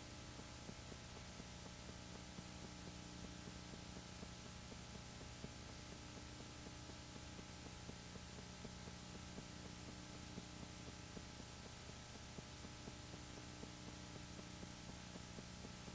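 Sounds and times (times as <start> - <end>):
film projector humming and ticking: 0.0 - 15.9.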